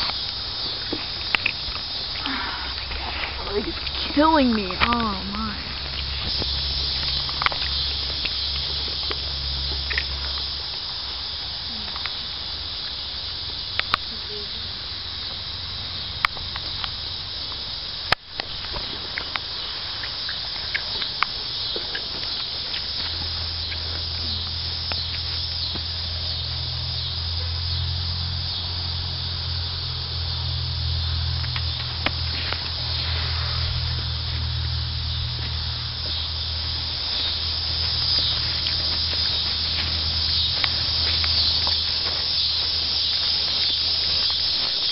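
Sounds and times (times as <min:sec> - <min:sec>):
insect chorus: 0:00.0 - 0:44.9.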